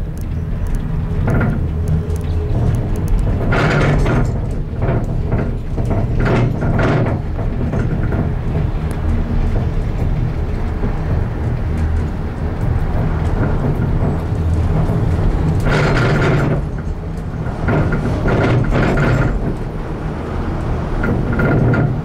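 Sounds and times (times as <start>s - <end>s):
gondola cable rumble and hum: 0.0s - 22.0s.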